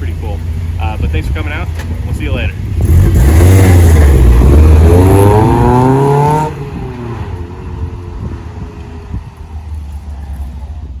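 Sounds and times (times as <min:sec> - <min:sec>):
road noise: 0:00.0 - 0:11.0
car engine accelerating: 0:00.1 - 0:11.0.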